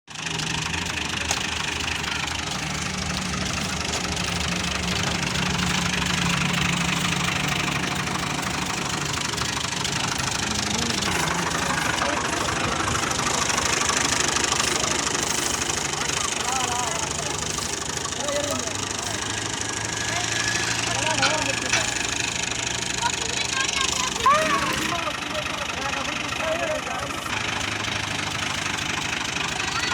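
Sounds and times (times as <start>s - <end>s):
threshing machinery: 0.1s - 29.9s
tractor diesel engine running: 0.1s - 29.9s.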